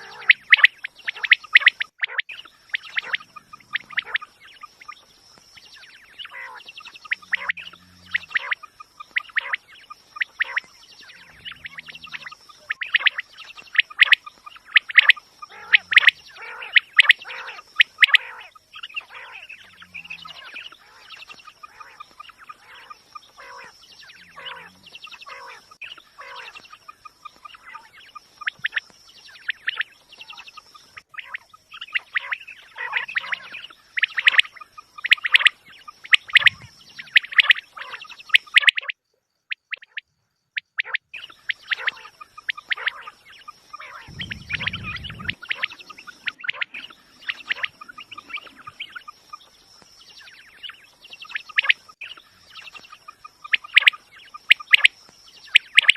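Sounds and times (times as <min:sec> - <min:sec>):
quail calling chirps: 0:00.0 - 0:40.0, 0:40.6 - 0:55.9.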